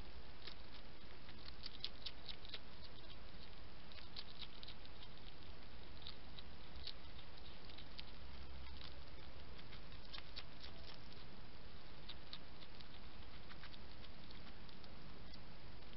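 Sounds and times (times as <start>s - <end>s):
hedgehog eating crunchy clicks: 0.0s - 15.9s
steady background hiss: 0.0s - 15.9s.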